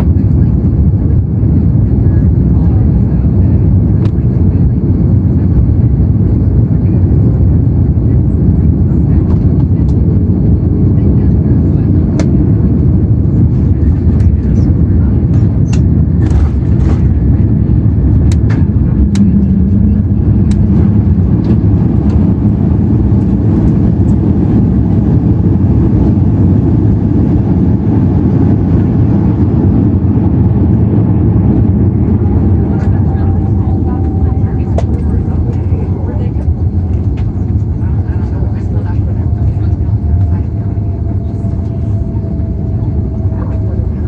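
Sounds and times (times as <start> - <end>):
deep rumble of jet engines: 0.0 - 44.0.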